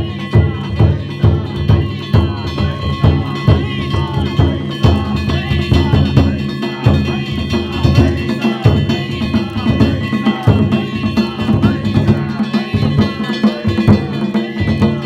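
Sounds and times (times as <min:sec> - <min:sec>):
taiko drum rhythm: 0:00.0 - 0:15.0.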